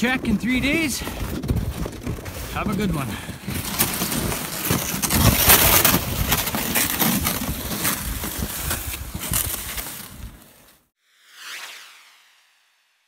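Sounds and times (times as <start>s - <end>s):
footsteps crunching through snow: 0.0s - 10.8s
plastic sled dragging on snow: 0.0s - 10.9s.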